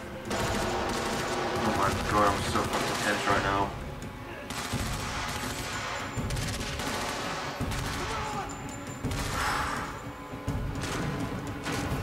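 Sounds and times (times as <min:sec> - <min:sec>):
rapid gunfire: 0:00.2 - 0:03.7, 0:04.4 - 0:10.0, 0:10.6 - 0:12.0.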